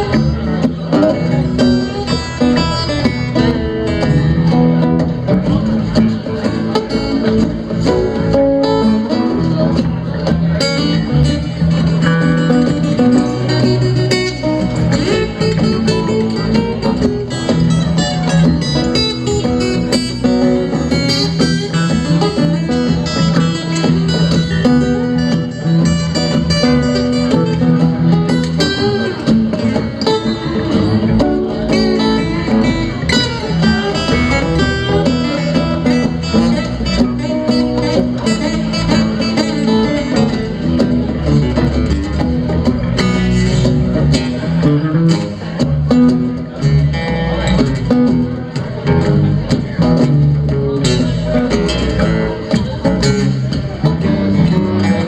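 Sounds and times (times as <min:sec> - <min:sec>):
live blues band: 0:00.0 - 0:55.0
plucked guitar: 0:00.0 - 0:55.0.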